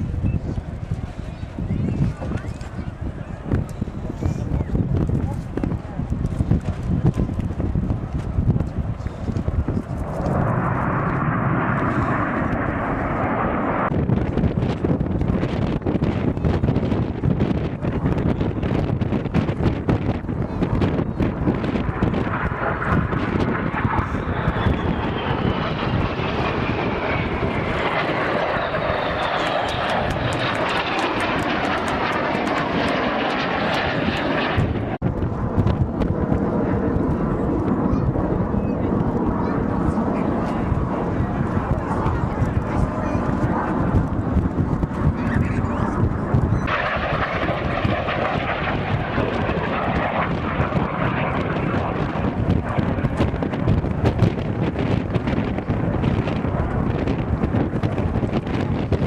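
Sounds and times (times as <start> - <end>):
plane engine flying past: 0.0 - 15.0, 20.2 - 54.1
wind buffeting microphone: 0.0 - 59.0.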